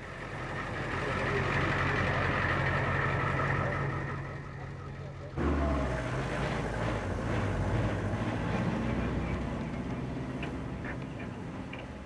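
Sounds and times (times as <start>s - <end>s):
outdoor noise: 0.0s - 12.0s
vehicle engines rumbling: 0.0s - 12.0s.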